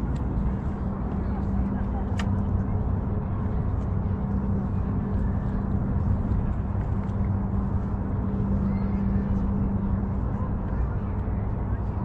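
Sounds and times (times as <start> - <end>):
low engine drone: 0.0 - 12.0
water-side ambience: 0.0 - 12.0.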